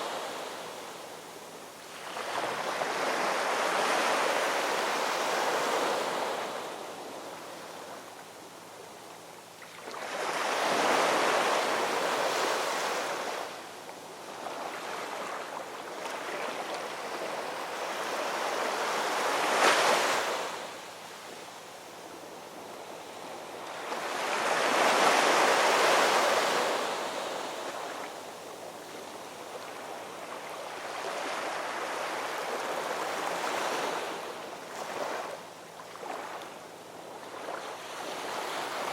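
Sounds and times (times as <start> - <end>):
ocean waves breaking on shore: 0.0 - 8.2, 9.5 - 38.9.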